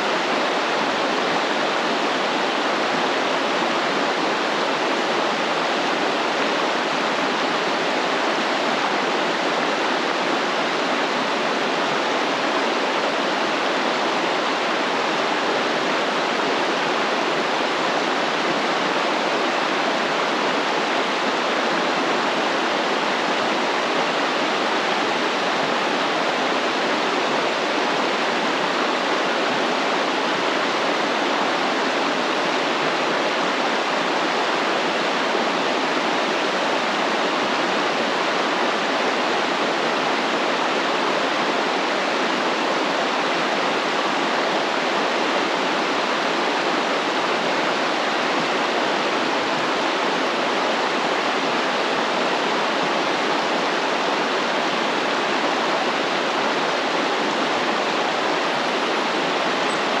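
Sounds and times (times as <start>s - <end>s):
stream flowing: 0.0s - 60.0s.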